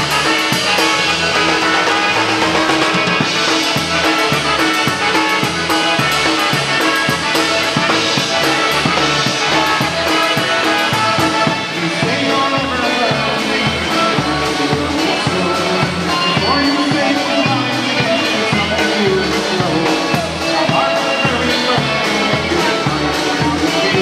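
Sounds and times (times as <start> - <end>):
drum kit and bass beat: 0.0 - 24.0
polka band playing: 0.0 - 24.0.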